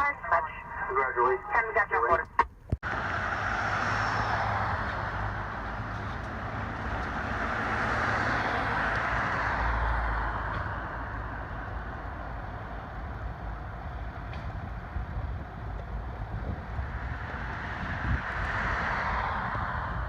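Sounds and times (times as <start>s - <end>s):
passing road traffic: 0.0s - 20.0s.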